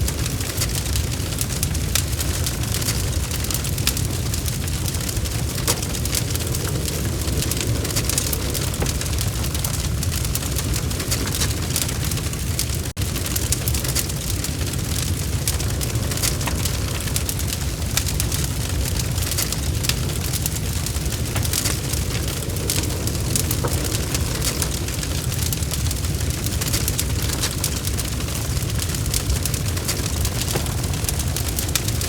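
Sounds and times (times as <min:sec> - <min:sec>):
logs crackling in a fireplace: 0:00.0 - 0:32.0.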